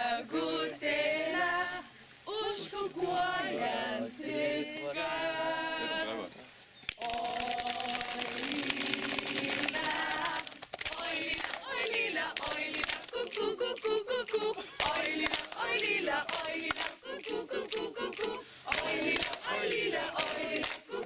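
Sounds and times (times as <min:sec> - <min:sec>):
group singing and shouting: 0:00.0 - 0:06.3, 0:07.0 - 0:21.0.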